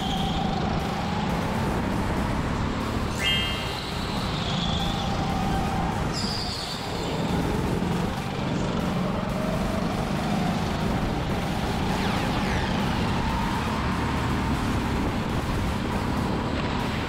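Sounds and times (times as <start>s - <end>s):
go-kart motor hum: 0.0s - 17.0s.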